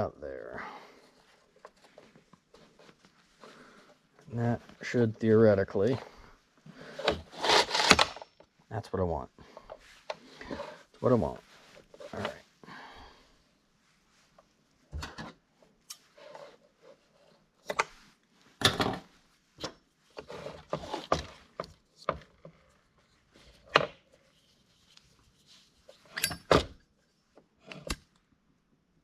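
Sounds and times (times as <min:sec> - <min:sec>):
rustling and scraping: 0:00.9 - 0:08.4, 0:09.4 - 0:12.6, 0:13.8 - 0:26.6.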